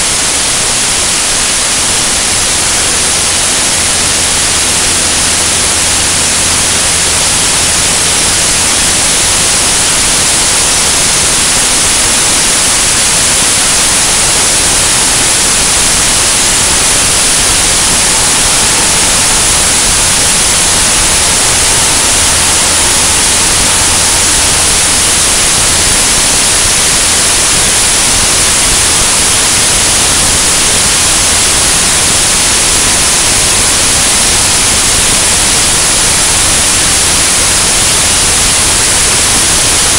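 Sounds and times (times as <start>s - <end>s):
aircraft engine and propeller drone: 0.0s - 39.9s
rush of airflow over camera: 0.0s - 39.9s.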